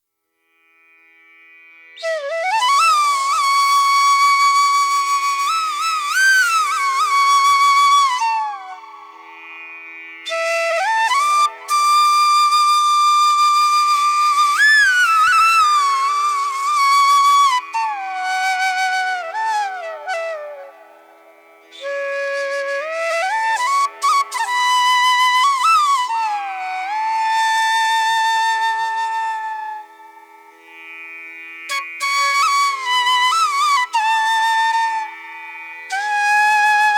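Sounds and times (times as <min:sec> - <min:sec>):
slow flute melody: 0:02.0 - 0:09.5, 0:10.2 - 0:30.5, 0:31.7 - 0:36.9.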